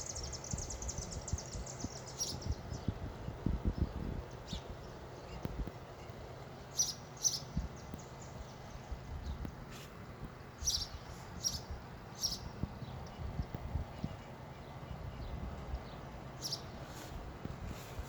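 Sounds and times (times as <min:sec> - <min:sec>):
bird chirping: 0:00.0 - 0:09.6, 0:10.5 - 0:16.8
low background hum: 0:00.0 - 0:18.0.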